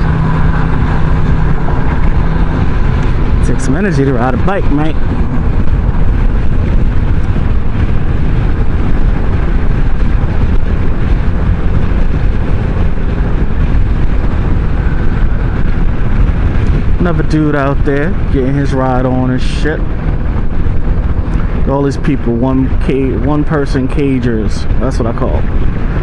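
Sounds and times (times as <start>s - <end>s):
scooter road noise: 0.0s - 26.0s
wind buffeting microphone: 0.0s - 26.0s.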